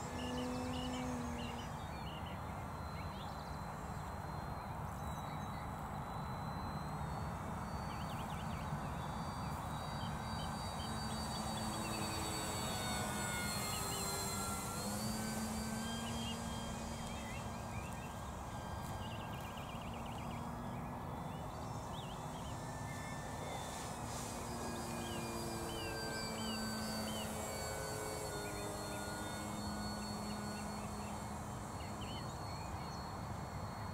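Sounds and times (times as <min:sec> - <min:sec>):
birds chirping: 0:00.0 - 0:33.9
electric model plane motor whining: 0:00.0 - 0:33.9.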